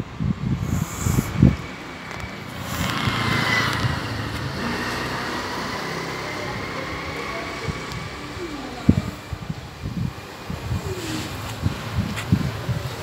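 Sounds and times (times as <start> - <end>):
vehicle passing by: 0.6 - 12.3.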